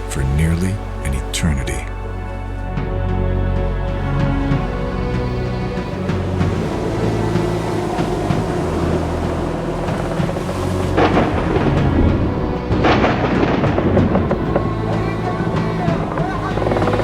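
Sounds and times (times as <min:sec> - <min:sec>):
low dark music: 0:00.0 - 0:17.0.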